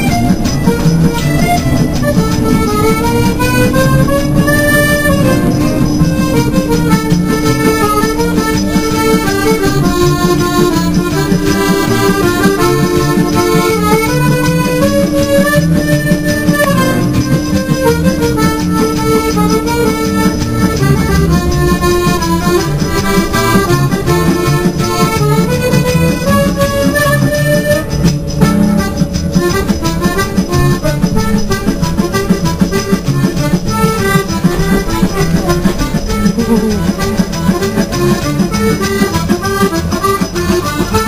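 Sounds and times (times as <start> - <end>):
accordion melody: 0.0 - 41.0
held low accordion note: 0.0 - 41.0.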